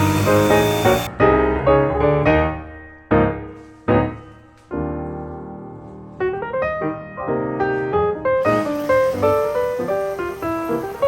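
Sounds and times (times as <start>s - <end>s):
piano chords ringing out: 0.0s - 11.0s.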